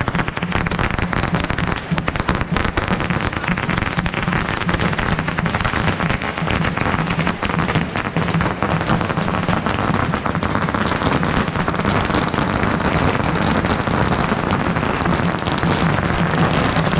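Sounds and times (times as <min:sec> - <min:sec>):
firecrackers crackling: 0:00.0 - 0:16.9.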